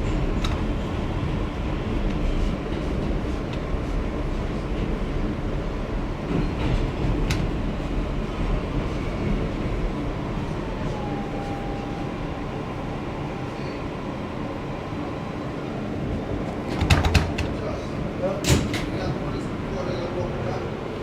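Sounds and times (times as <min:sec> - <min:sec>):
subway car rumbling on track: 0:00.0 - 0:21.0.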